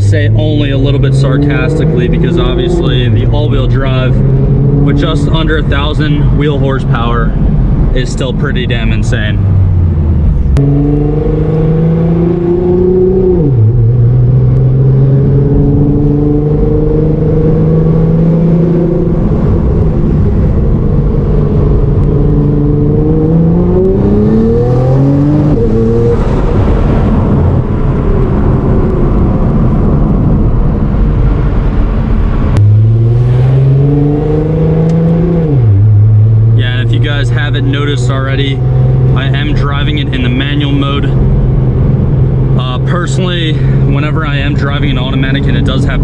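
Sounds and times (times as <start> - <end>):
car engine accelerating through gears: 0.0 - 8.7, 9.3 - 46.0.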